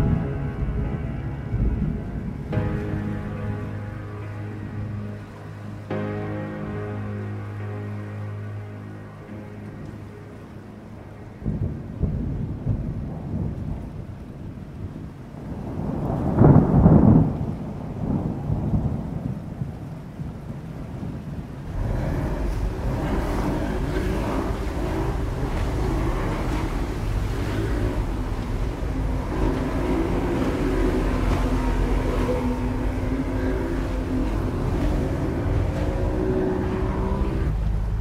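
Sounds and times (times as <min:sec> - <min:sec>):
motorboat engine drone: 0:00.0 - 0:14.3, 0:21.2 - 0:38.0
deep rumble like thunder: 0:00.0 - 0:38.0
water rushing along hull: 0:00.0 - 0:38.0.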